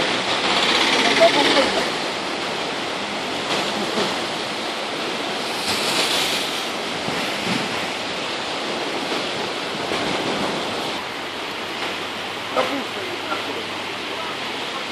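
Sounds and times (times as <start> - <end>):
water rushing and splashing: 0.0 - 14.9.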